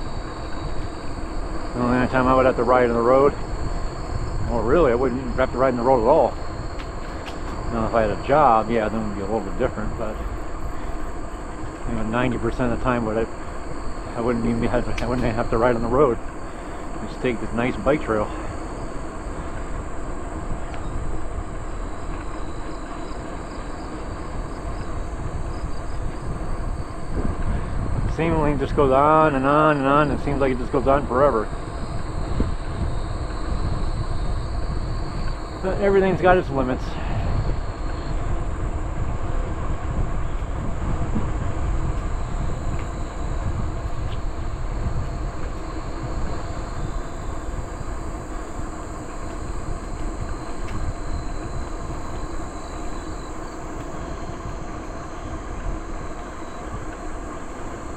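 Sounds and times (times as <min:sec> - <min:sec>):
bicycle tyres rolling on trail: 0:00.0 - 0:57.9
insects trilling: 0:00.0 - 0:57.9
wind on microphone: 0:00.0 - 0:57.9.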